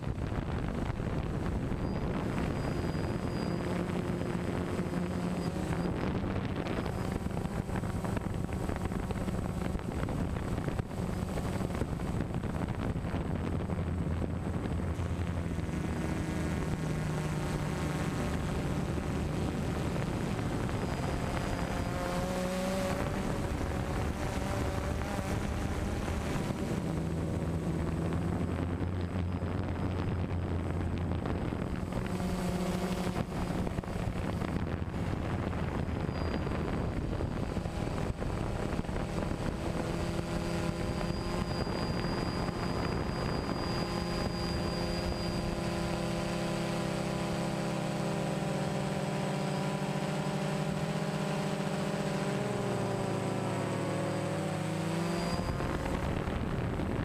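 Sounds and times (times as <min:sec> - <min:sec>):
quadcopter motors humming: 0:00.0 - 0:57.0
wind noise on microphone: 0:00.0 - 0:57.0.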